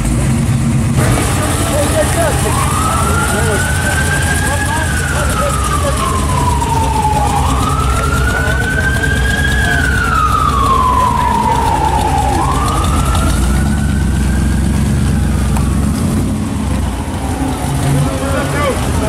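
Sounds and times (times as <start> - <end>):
car engine rumbling: 0.0 - 19.0
wailing siren: 1.3 - 19.0.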